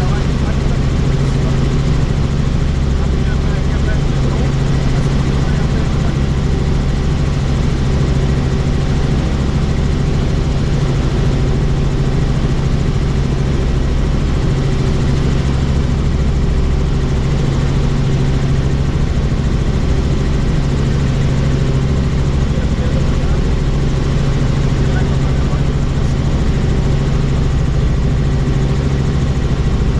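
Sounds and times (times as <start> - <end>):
helicopter engine and rotor noise: 0.0 - 29.9.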